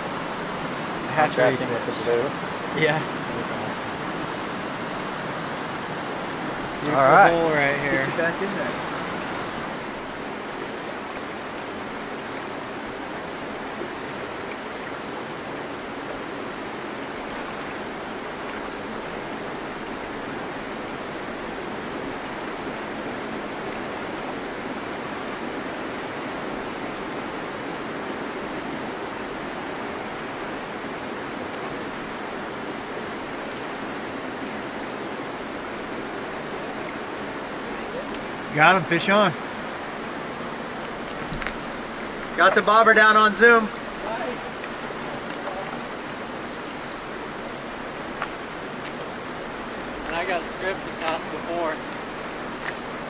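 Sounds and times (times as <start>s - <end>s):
river water over rocks: 0.0s - 53.0s.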